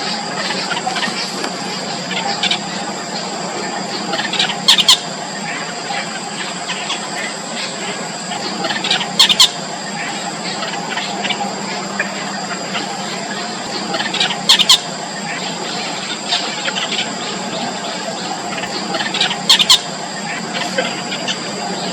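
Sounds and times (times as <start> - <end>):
nestlings squealing begging calls: 0.0 - 21.9.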